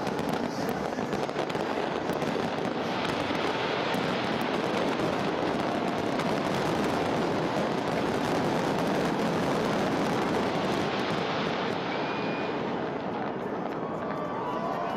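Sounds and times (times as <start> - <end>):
fireworks bangs and rumble: 0.0 - 14.9
sharp high crackle: 0.0 - 14.9.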